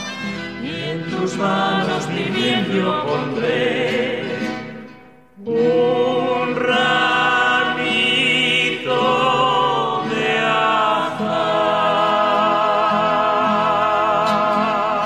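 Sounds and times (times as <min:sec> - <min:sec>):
singing over instrumental backing: 0:00.6 - 0:04.7, 0:05.4 - 0:15.0.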